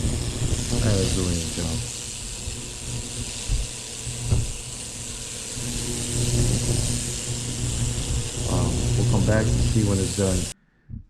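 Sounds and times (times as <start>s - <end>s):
ultrasonic cleaner humming: 0.0s - 10.6s
water hissing: 0.0s - 10.6s.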